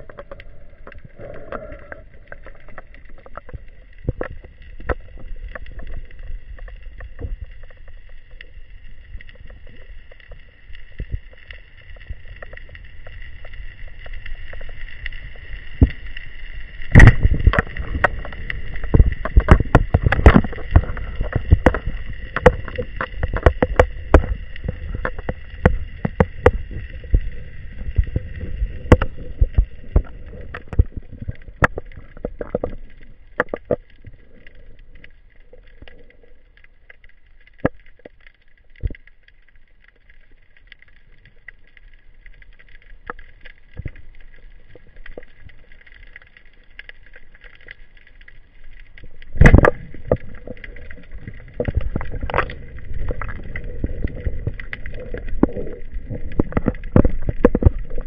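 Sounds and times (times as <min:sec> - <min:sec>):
gear clicks and knocks underwater: 0:00.0 - 0:58.0
steady high hum underwater: 0:00.0 - 0:58.0.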